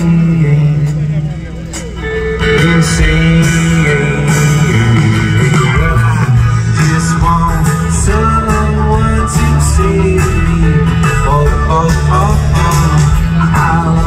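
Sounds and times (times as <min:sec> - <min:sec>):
acoustic and electric guitars: 0:00.0 - 0:14.0
drums: 0:00.0 - 0:14.0
live band through pa: 0:00.0 - 0:14.0.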